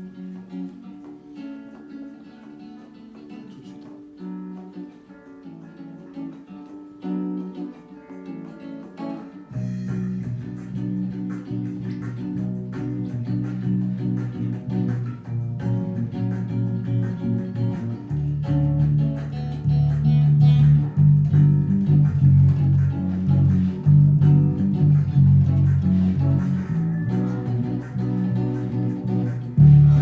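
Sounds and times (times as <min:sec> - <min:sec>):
plucked guitar music: 0:00.0 - 0:30.0.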